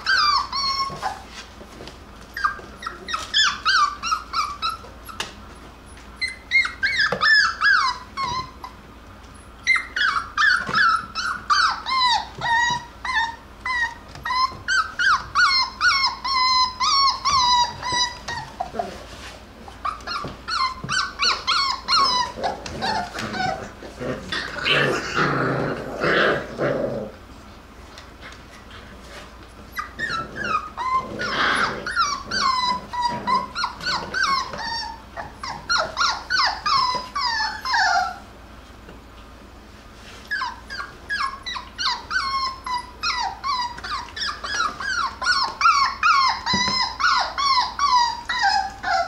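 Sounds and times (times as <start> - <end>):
puppies growling: 0.0 - 38.7, 40.0 - 49.0
puppies yipping and whining: 0.0 - 49.0.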